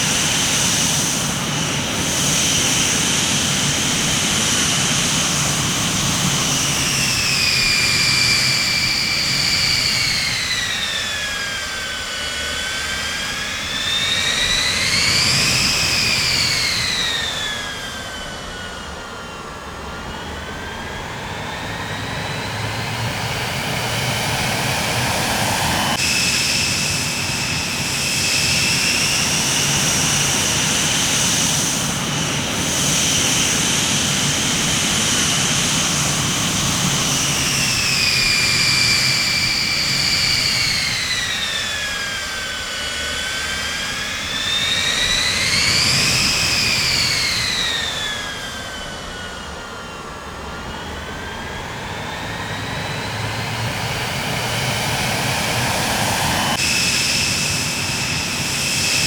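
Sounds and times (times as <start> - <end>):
engine noise rush: 0.0 - 59.0
jet engines whining: 0.0 - 59.0.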